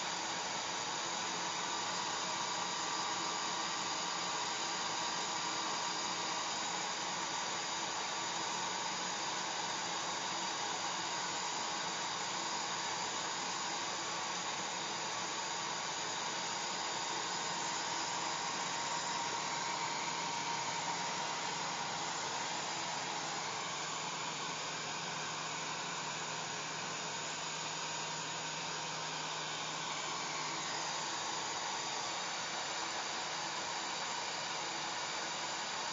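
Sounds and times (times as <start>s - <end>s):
hair dryer running: 0.0s - 35.9s.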